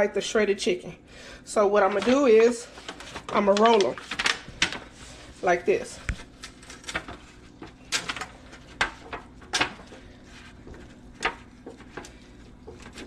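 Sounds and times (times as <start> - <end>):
foil pan crinkling: 1.8 - 13.0.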